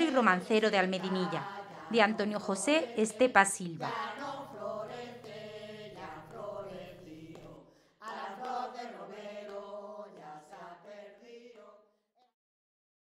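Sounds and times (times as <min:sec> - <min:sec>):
group singing folk song: 0:00.0 - 0:11.9.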